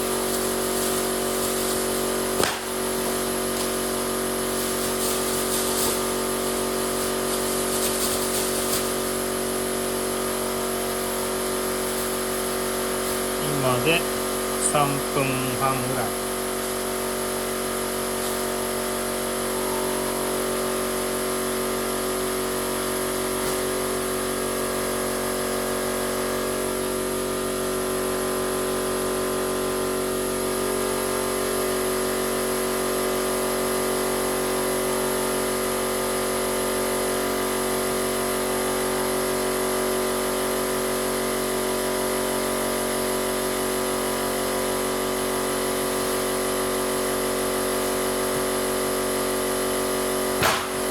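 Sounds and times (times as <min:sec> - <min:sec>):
air compressor running: 0:00.0 - 0:50.9.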